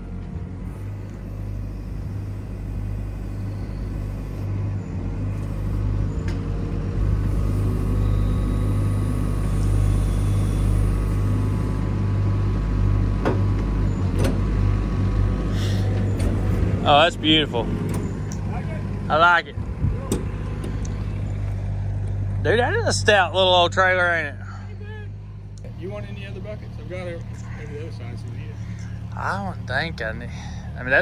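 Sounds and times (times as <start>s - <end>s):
excavator diesel engine and hydraulics: 0.0s - 31.0s.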